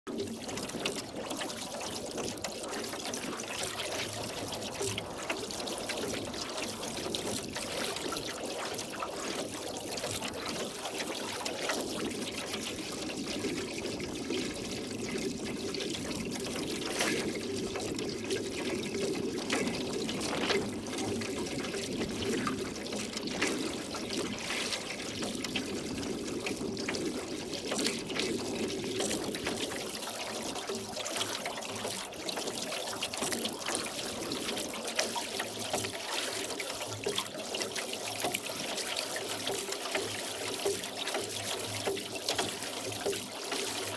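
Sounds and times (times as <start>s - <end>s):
oars splashing in water: 0.1s - 43.9s
water dripping: 0.1s - 43.9s.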